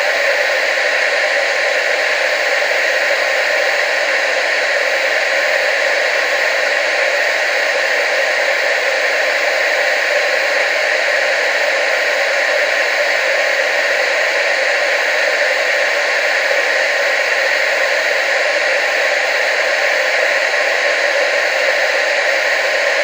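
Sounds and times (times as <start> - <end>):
tv static hiss: 0.0 - 23.0.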